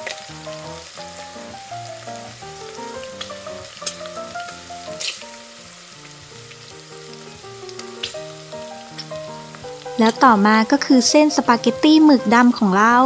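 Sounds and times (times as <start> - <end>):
simple background melody: 0.0 - 13.0
sizzling frying sound: 0.0 - 13.0.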